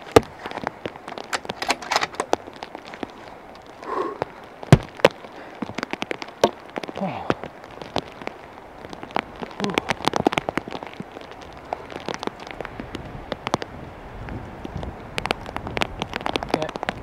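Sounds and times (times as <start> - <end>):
raindrops hitting microphone: 0.0 - 17.0.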